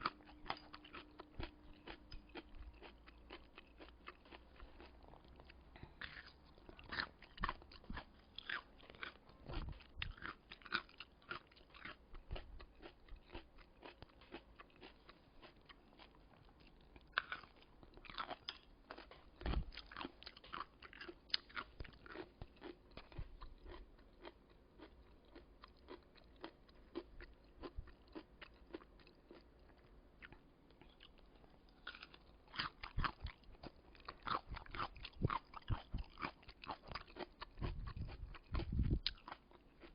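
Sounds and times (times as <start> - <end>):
crunchy radish chewing: 0.0 - 39.9.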